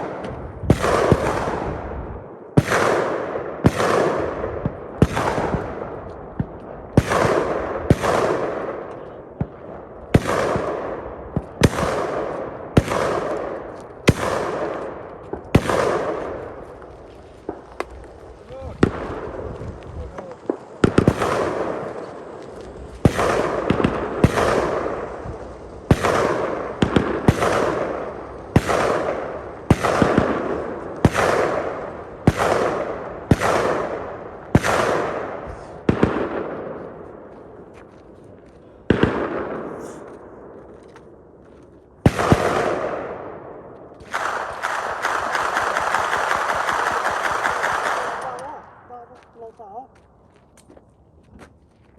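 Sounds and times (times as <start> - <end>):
rifle shots echoing: 0.0 - 37.7, 38.8 - 41.4, 42.0 - 49.5.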